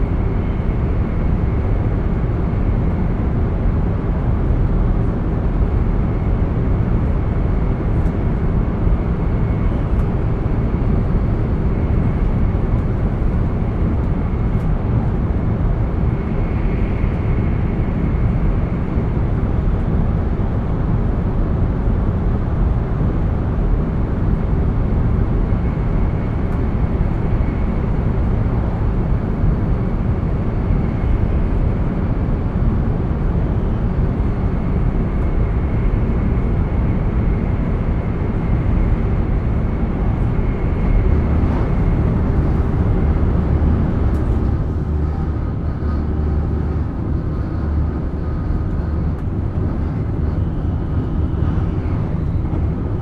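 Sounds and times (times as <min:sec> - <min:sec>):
train interior rumble and rush: 0:00.0 - 0:53.0.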